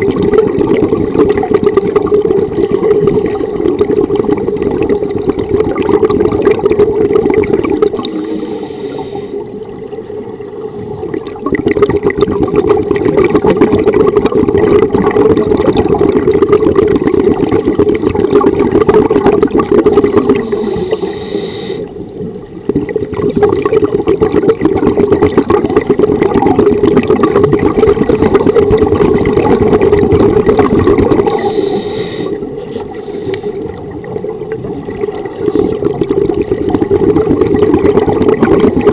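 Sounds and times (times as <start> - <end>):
underwater regulator bubbling: 0.0 - 38.9.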